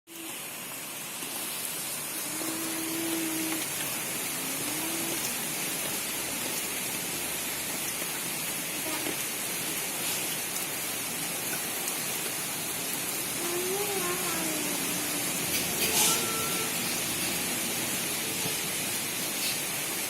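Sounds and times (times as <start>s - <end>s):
light drizzling rain: 0.1s - 20.0s.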